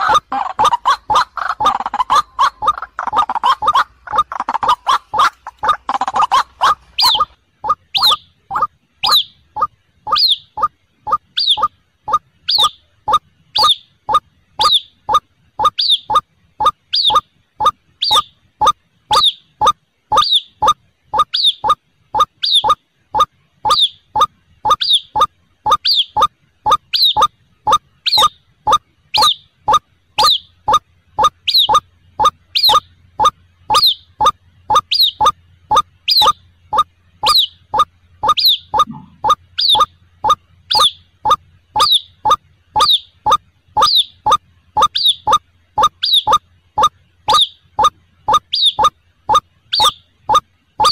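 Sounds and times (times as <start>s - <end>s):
waterhen calls: 0.0s - 50.9s.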